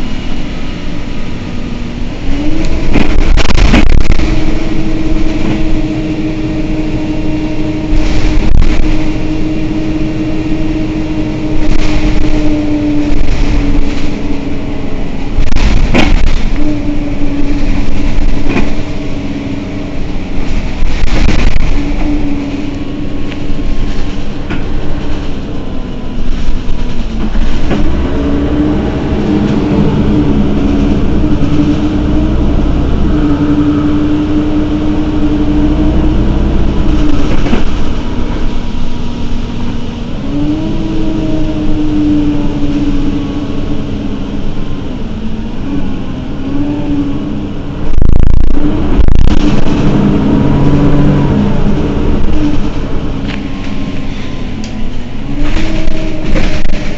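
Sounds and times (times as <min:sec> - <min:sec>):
bus engine idling: 0:00.0 - 0:56.9.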